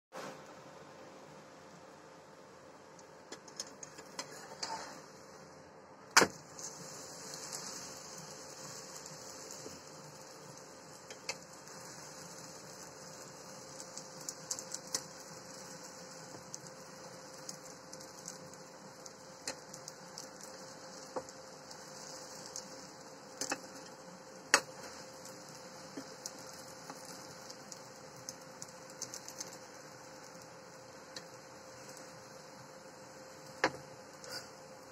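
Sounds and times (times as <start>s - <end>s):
steady hum: 0.1s - 34.9s
flatbread sizzling in a pan: 2.6s - 34.9s
spatula crackles and clicks: 2.9s - 5.0s, 6.1s - 34.9s.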